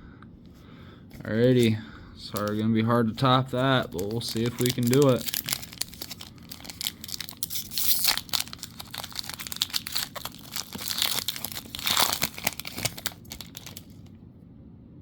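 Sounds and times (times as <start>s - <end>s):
plastic wrapper crinkling: 1.1s - 14.1s.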